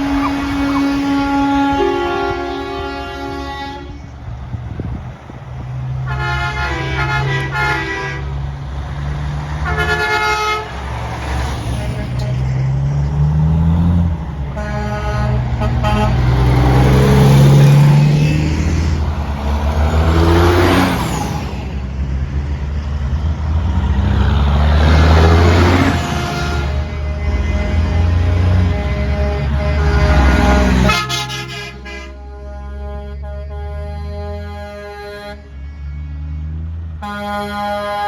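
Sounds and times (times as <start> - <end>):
truck horn blasts: 0.0 - 4.6, 5.7 - 8.6, 9.4 - 12.6, 14.1 - 21.1, 24.7 - 38.0
diesel truck engines passing: 0.0 - 38.0.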